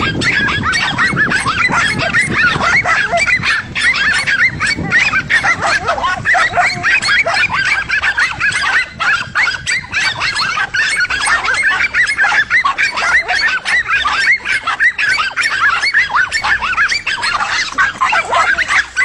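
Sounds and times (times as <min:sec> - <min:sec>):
dogs barking and yelping: 0:00.0 - 0:19.0.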